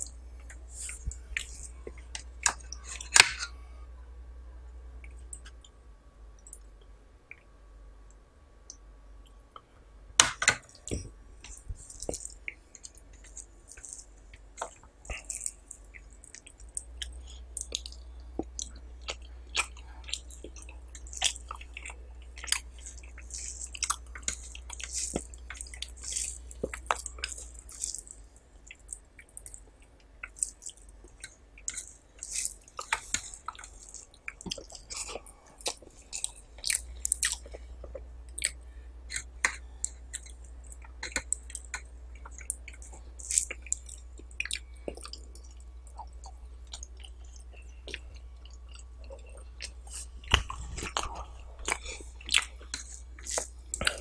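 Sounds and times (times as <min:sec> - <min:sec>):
faint low hum: 0:00.0 - 0:54.0
wet chewing and mouth clicks: 0:10.7 - 0:54.0.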